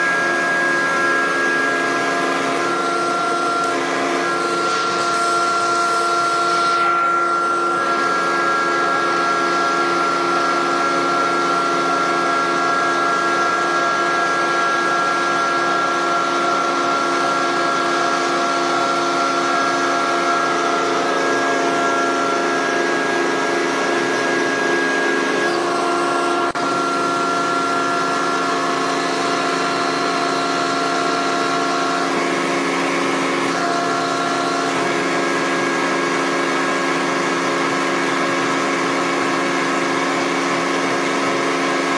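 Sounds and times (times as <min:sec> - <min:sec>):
machine hum and whine: 0:00.0 - 0:41.9.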